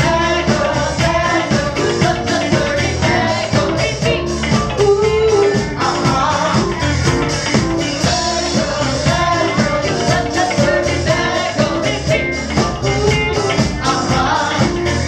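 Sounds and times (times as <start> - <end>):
woman singing into a microphone: 0.0 - 6.8, 7.9 - 15.0
live band playing dance music: 0.0 - 15.0.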